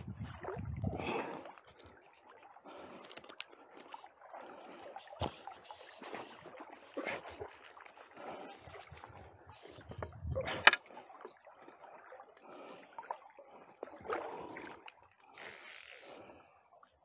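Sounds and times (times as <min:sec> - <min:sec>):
river current swirling and lapping: 0:00.0 - 0:17.0.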